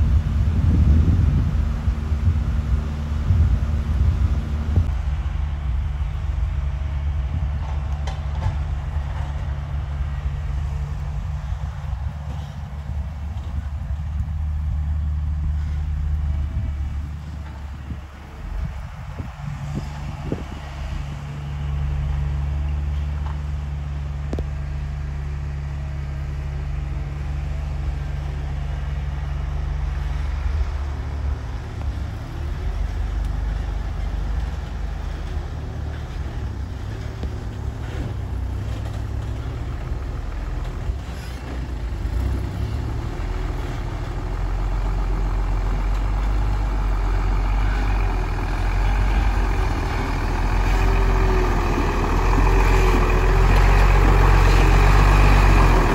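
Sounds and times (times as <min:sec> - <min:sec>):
truck diesel engine under load: 0:00.0 - 0:55.9.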